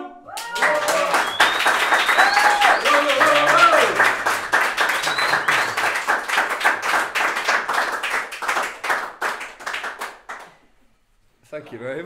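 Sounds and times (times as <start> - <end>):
audience clapping: 0.4 - 10.8.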